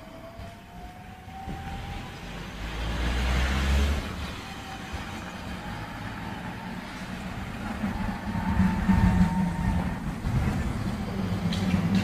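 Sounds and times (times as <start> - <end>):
vehicle passing by: 1.1 - 12.0.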